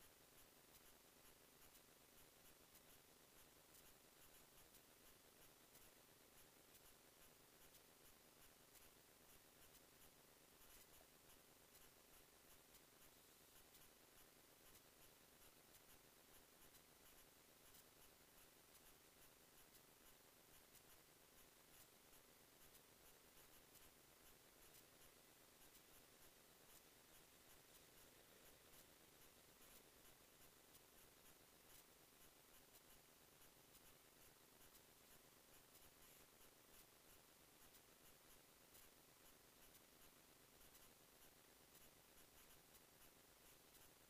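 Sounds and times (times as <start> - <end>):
faint light ticks: 0.0 - 44.0
faint steady hiss: 0.0 - 44.0.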